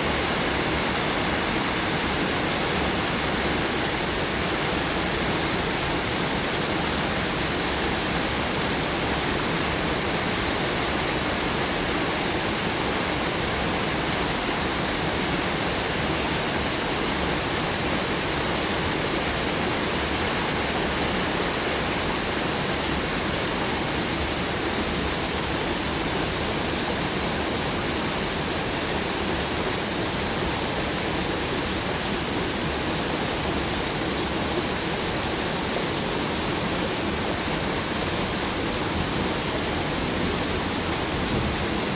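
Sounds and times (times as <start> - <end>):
heavy rain on foliage: 0.0 - 41.9.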